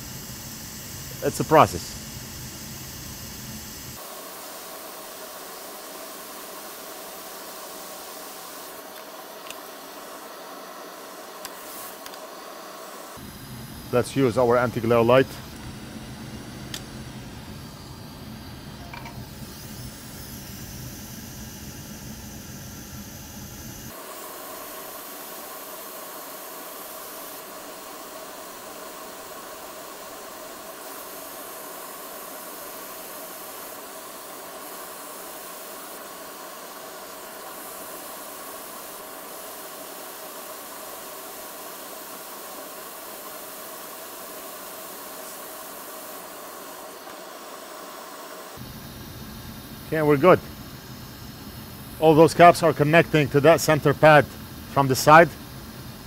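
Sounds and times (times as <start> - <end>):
hot air station hissing: 0.0 - 56.0.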